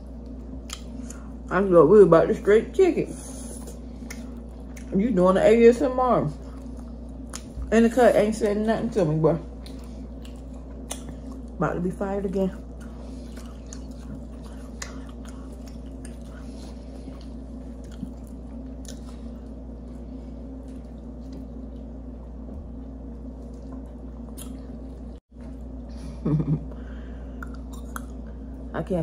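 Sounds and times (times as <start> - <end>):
close chewing and mouth sounds: 0.0 - 1.4, 3.2 - 5.2, 6.2 - 25.7, 27.4 - 28.5
steady low hum: 0.0 - 29.0.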